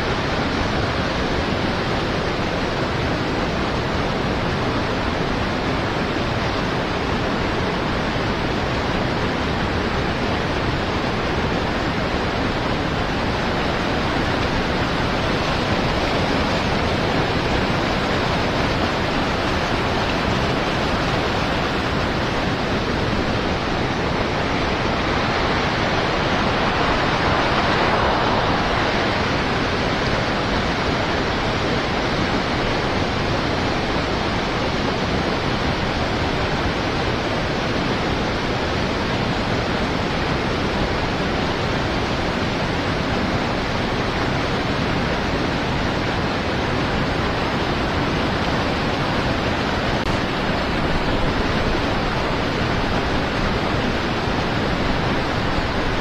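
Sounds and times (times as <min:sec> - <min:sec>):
flowing river water: 0:00.0 - 0:56.0.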